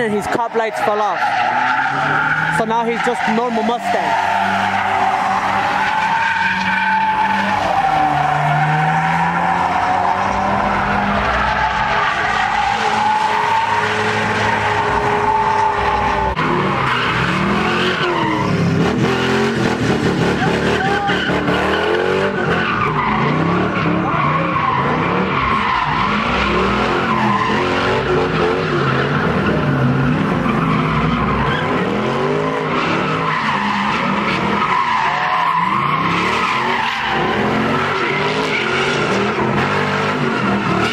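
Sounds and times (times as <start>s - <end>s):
car engines revving: 0.0s - 40.9s
tyres screeching: 0.0s - 40.9s.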